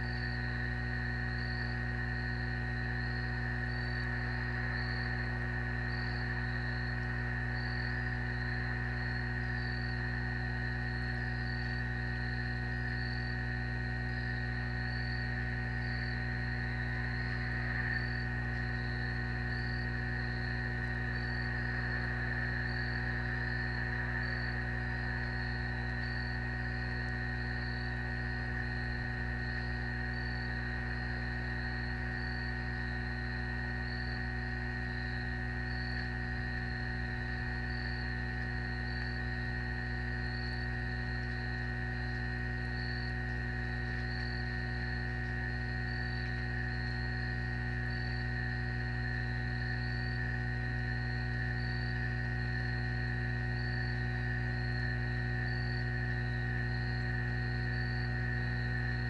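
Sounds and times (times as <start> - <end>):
electrical hum: 0.0 - 59.0
pulsing insect chorus: 0.0 - 59.0.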